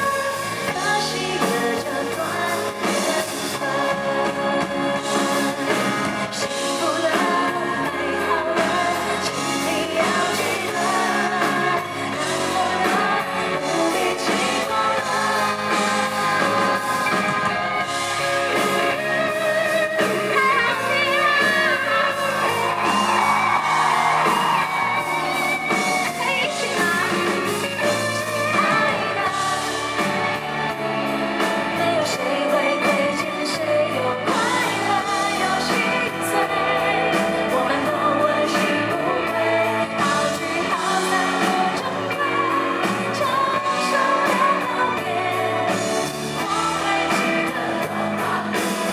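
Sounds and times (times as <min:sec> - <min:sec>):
live pop-rock band playing: 0:00.0 - 0:48.9
woman singing: 0:00.0 - 0:48.9.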